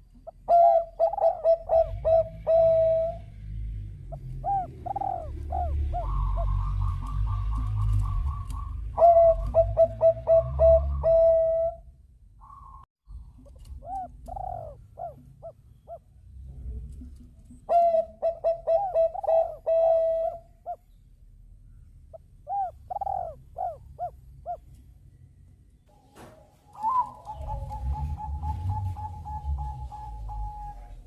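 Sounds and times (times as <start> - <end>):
dove cooing: 0.0 - 3.3, 4.1 - 12.8, 13.4 - 16.1, 17.5 - 20.8, 22.1 - 24.8, 26.7 - 31.0.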